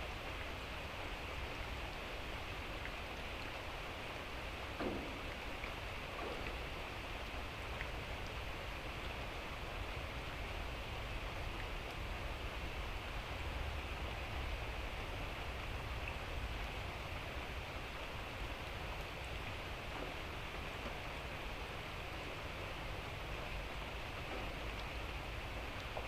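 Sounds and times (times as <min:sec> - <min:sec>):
light drizzling rain: 0:00.0 - 0:26.0.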